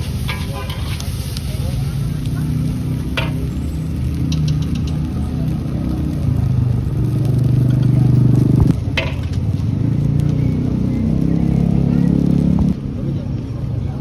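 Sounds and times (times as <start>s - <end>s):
engine humming steadily: 0.0s - 13.7s.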